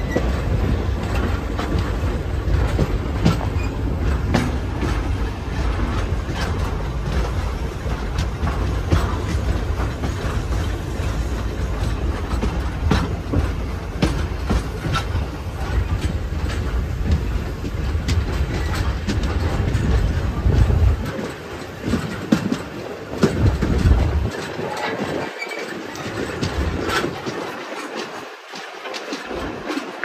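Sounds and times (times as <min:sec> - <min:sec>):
heavy low train rumble: 0:00.0 - 0:30.0
train wheels clicking over rail joints: 0:00.0 - 0:30.0.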